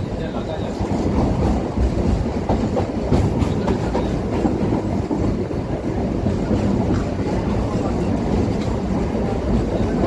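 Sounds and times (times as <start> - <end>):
train rumbling: 0.0 - 10.0
wheels clattering over rails: 0.0 - 10.0.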